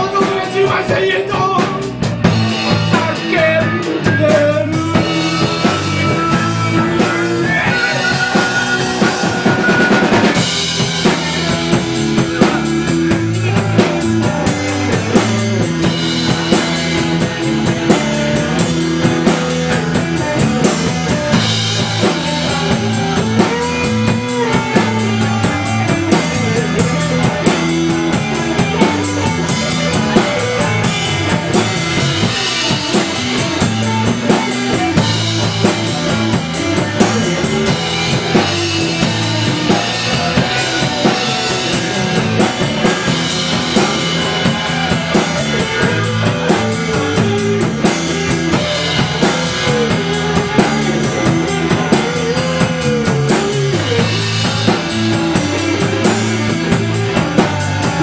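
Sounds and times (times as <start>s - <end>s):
blues band playing: 0.0s - 58.0s
blues harmonica: 0.0s - 58.0s.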